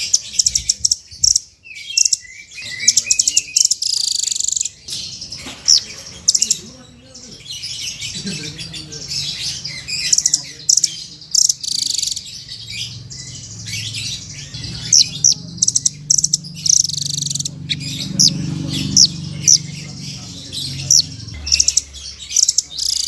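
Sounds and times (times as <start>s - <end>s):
songbird singing trills and whistles: 0.0s - 23.0s.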